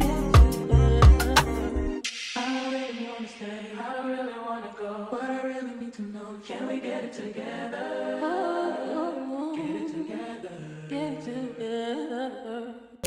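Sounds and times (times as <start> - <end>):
voices singing: 0.0 - 13.0.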